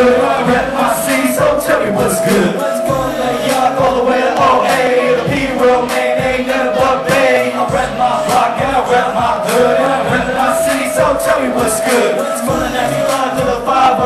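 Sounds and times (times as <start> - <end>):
heavy bass kick: 0.0 - 11.9, 12.5 - 14.0
rapping over a beat: 0.0 - 14.0.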